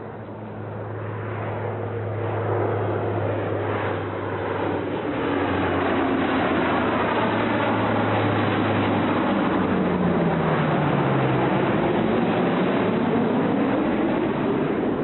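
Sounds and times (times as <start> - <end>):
turboprop plane drone: 0.0 - 15.0.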